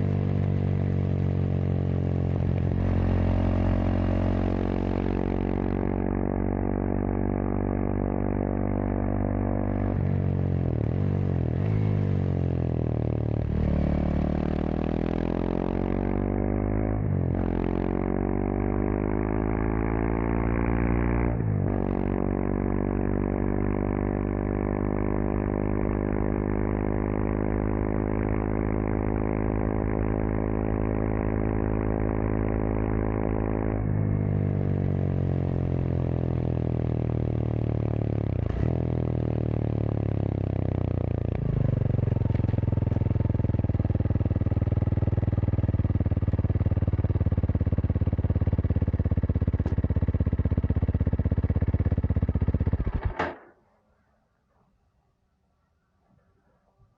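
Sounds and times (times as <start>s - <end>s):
motorcycle engine running: 0.0s - 53.5s.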